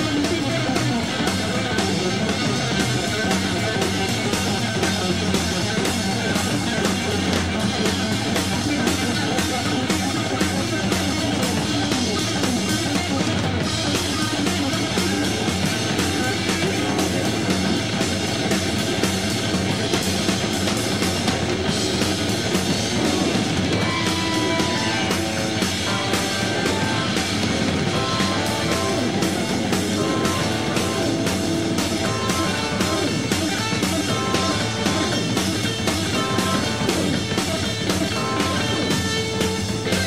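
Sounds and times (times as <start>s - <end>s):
electric guitar soloing: 0.0s - 40.0s
fast driving drums: 0.0s - 40.0s.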